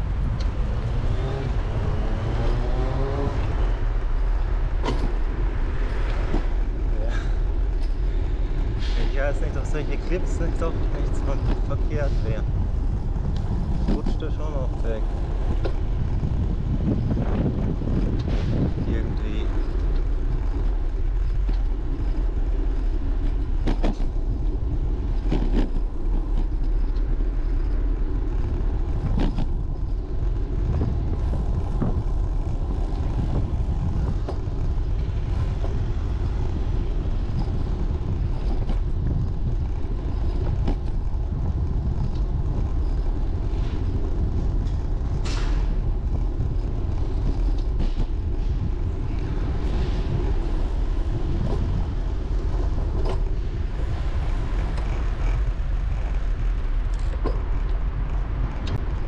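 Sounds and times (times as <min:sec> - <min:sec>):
street traffic: 0:00.0 - 0:59.0
wind rushing over microphone: 0:00.0 - 0:59.0.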